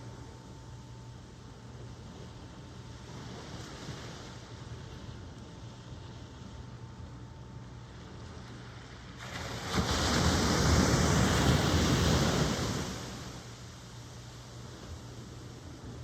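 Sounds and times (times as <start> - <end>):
low background surf: 0.0 - 16.0.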